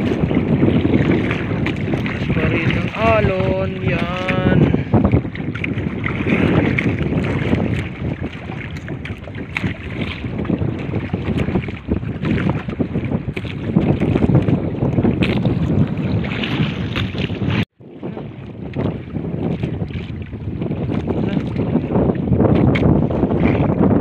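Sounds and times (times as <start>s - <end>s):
sea waves against boat: 0.0s - 24.0s
wind buffeting microphone: 0.0s - 24.0s.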